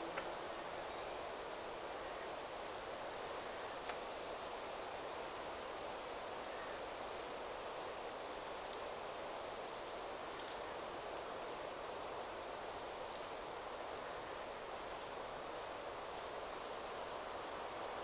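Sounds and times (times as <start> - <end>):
wind rustling through trees: 0.0 - 18.0.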